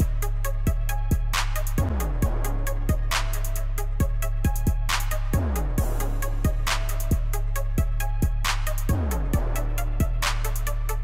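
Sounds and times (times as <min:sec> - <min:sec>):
instrumental music with programmed beat: 0:00.0 - 0:11.0.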